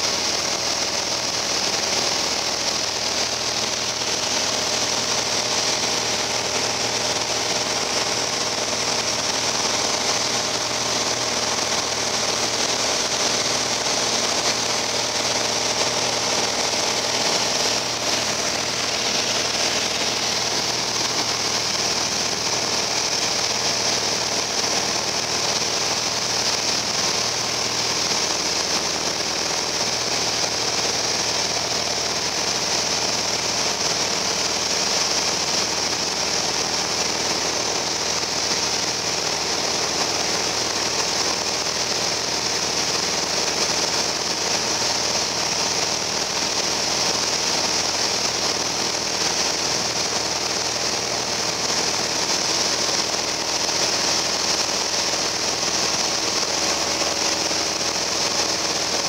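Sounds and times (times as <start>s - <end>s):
high hiss of airflow: 0.0s - 59.0s
propeller plane engine drone: 0.0s - 59.0s.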